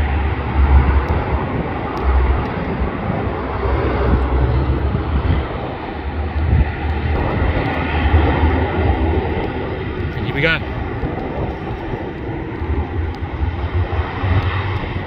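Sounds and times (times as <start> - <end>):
turboprop airliner engines droning: 0.0 - 15.0.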